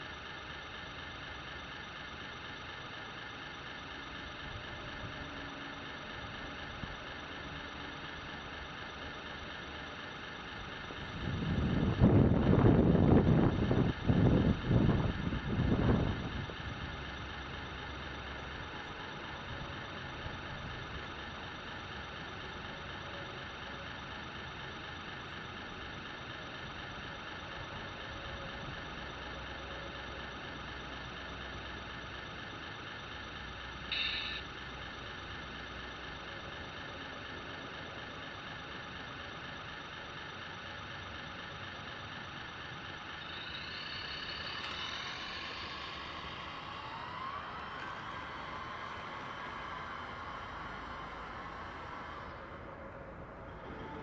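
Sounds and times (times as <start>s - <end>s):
model truck motor whine: 0.0s - 54.0s.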